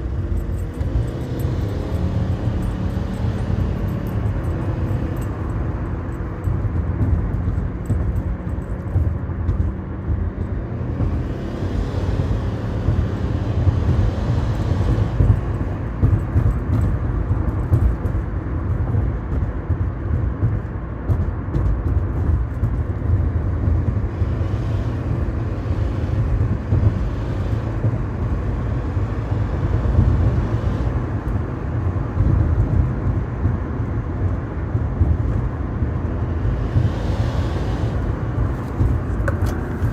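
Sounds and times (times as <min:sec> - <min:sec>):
car engine running under load: 0:00.0 - 0:39.9.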